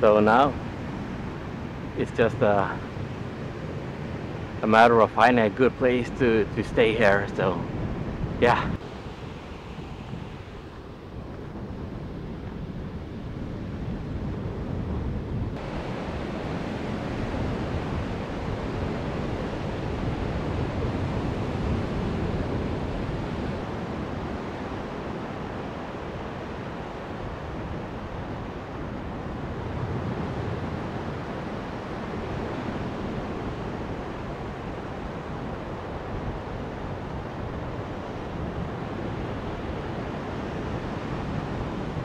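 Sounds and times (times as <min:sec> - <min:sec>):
surf washing: 0:00.0 - 0:42.0
wind buffeting microphone: 0:00.0 - 0:42.0.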